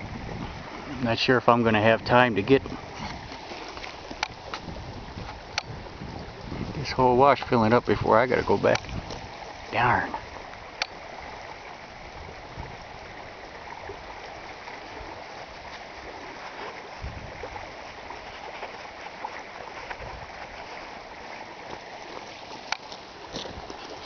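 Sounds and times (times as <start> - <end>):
water rushing down a gravel wash: 0.0 - 24.0.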